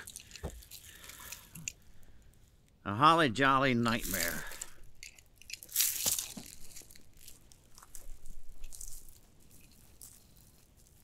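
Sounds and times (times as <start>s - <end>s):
string lights rustling and clicking: 0.0s - 2.8s, 3.8s - 11.0s.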